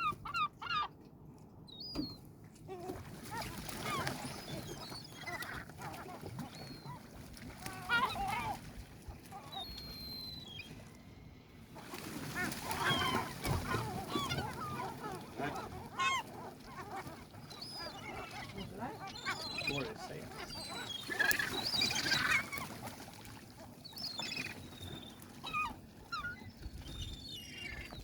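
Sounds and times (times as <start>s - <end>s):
seagulls calling: 0.0s - 1.0s, 2.8s - 10.9s, 11.7s - 28.0s.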